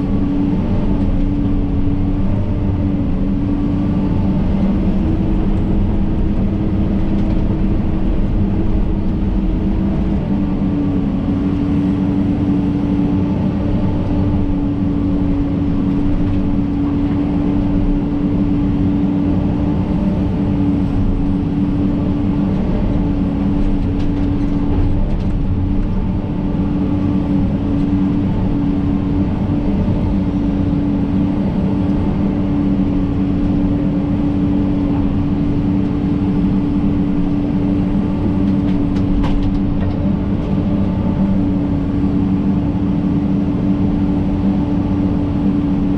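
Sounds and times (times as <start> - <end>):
excavator diesel engine droning: 0.0 - 45.9.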